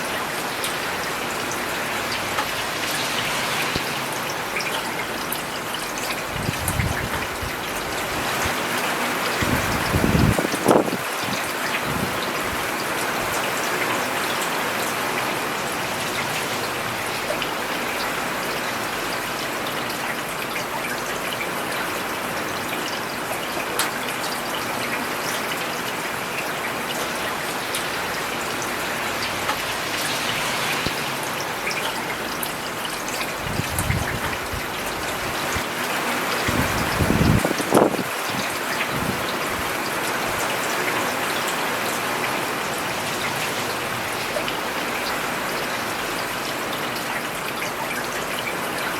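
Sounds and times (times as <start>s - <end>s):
rain on a paved road: 0.0s - 48.9s.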